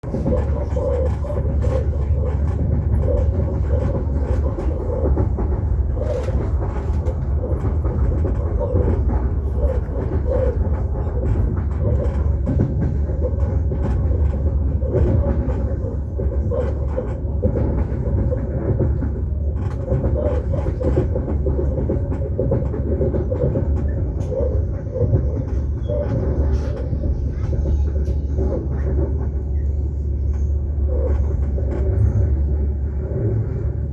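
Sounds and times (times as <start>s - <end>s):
train rumbling inside carriage: 0.0s - 33.9s.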